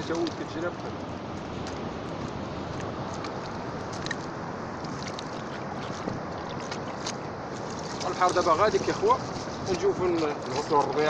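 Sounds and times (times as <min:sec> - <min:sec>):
steady rushing noise: 0:00.0 - 0:11.0
water sloshing: 0:00.0 - 0:11.0
wet seaweed squelching: 0:00.0 - 0:11.0.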